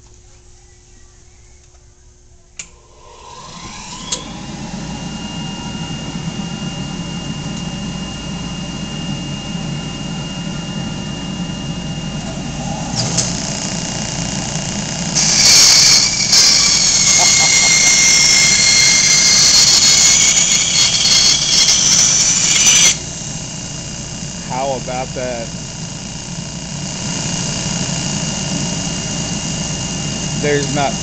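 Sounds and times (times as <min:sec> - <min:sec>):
bandsaw motor whining: 0:02.6 - 0:31.0.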